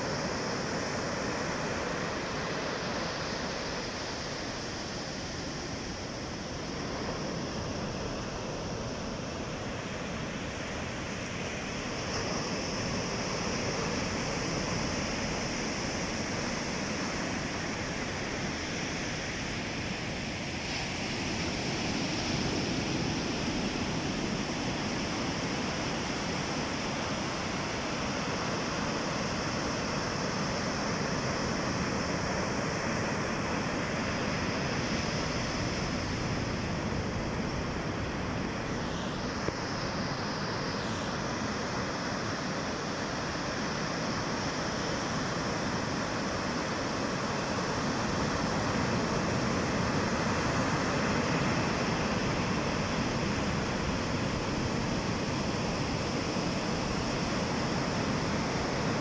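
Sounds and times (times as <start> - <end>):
sea waves washing in: 0.0 - 59.0.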